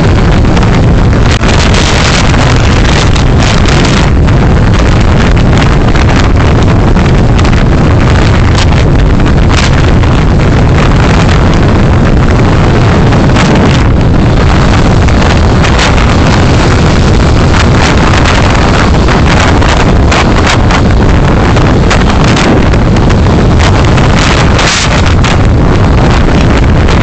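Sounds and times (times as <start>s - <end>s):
car road and wind noise: 0.0s - 27.0s
short crackles: 0.2s - 27.0s.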